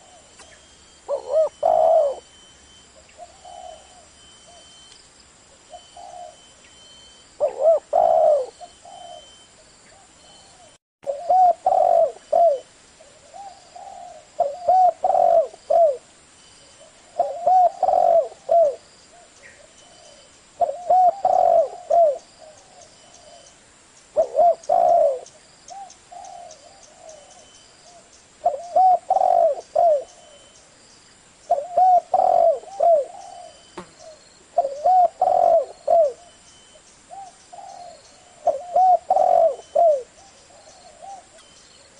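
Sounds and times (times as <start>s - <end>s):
dove cooing: 0.0s - 2.4s, 3.0s - 4.8s, 5.7s - 6.6s, 7.4s - 16.1s, 16.8s - 23.5s, 24.2s - 30.6s, 31.5s - 41.9s.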